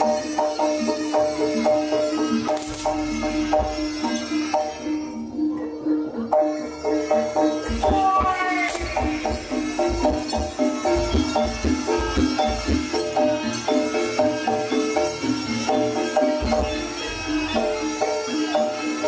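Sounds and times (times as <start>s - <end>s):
jingling rattling percussion: 0.0s - 19.0s
metal percussion pattern: 0.0s - 19.0s.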